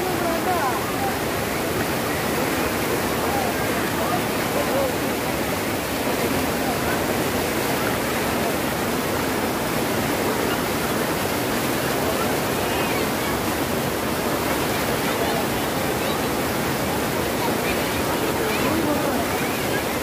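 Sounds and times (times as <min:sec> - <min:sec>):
water rushing over a weir: 0:00.0 - 0:20.0.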